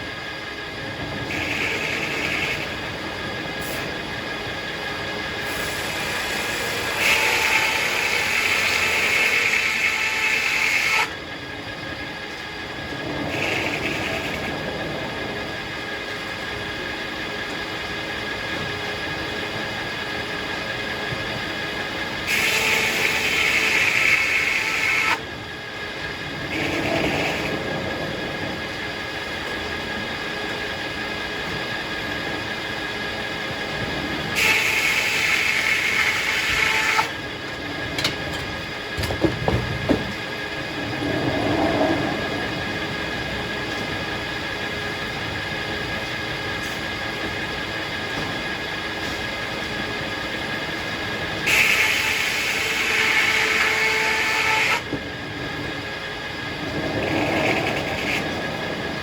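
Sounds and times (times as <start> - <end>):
circular sawmill running: 0.0 - 59.0.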